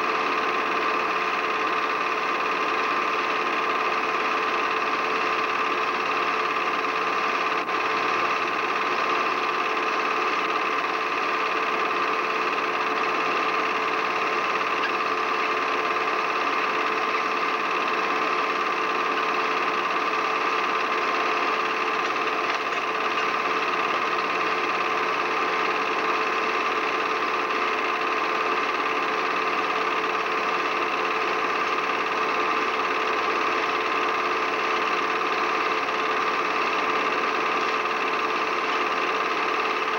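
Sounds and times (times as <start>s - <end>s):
mechanical whirring hum: 0.0s - 39.9s.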